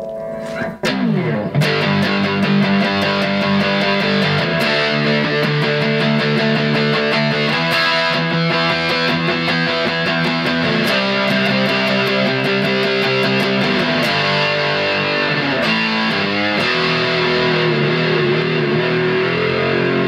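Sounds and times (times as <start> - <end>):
distorted electric guitar chords: 0.0 - 20.0.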